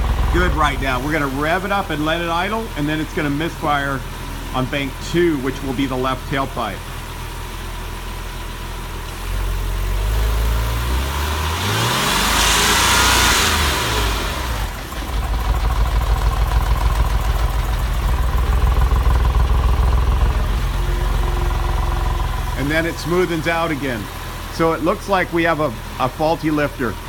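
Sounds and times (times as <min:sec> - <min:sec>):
car engine revving and idling roughly: 0:00.0 - 0:27.0.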